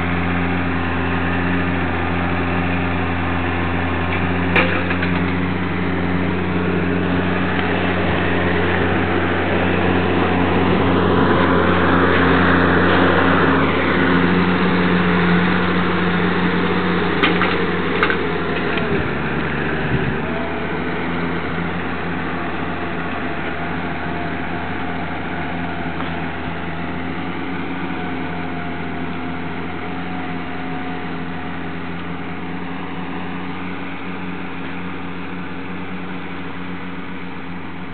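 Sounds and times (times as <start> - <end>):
tractor diesel engine drone: 0.0 - 37.9.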